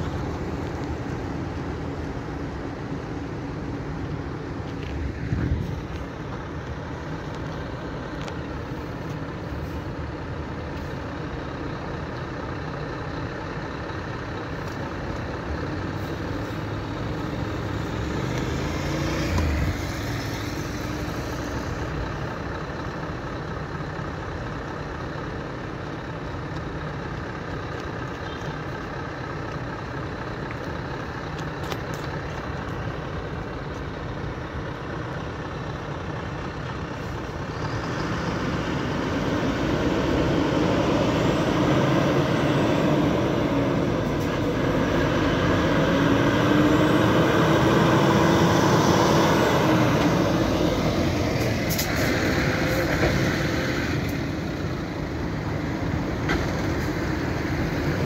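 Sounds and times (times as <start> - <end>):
diesel truck engine: 0.0 - 58.0
road noise: 0.0 - 58.0.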